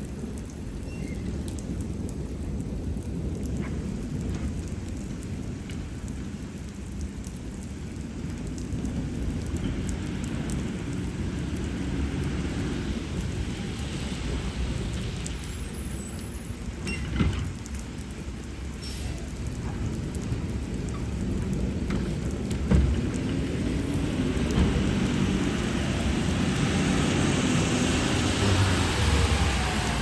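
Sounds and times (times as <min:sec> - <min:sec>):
heavy rain falling: 0:00.0 - 0:30.0
thunder rumbling: 0:00.0 - 0:30.0.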